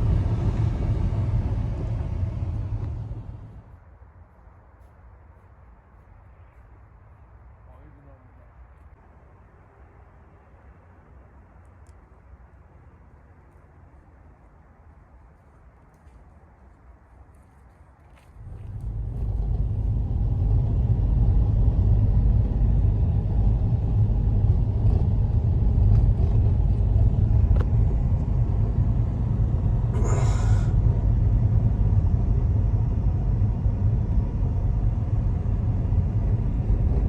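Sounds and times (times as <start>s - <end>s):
steady low rumble: 0.0s - 16.7s, 18.2s - 37.0s.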